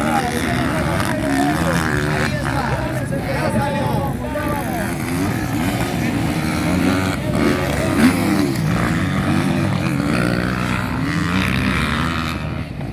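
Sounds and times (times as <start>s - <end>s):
motorcycle engines revving: 0.0s - 12.9s.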